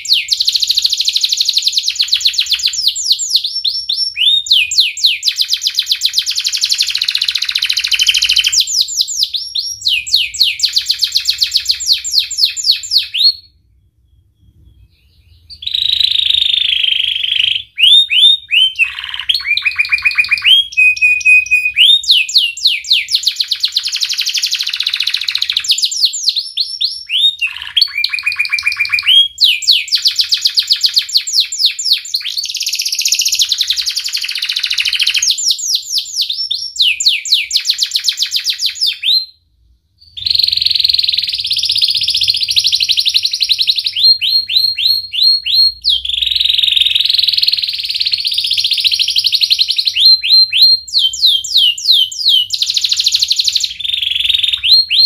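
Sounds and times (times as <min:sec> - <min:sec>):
canary singing: 0:00.0 - 0:39.3, 0:40.0 - 0:55.0.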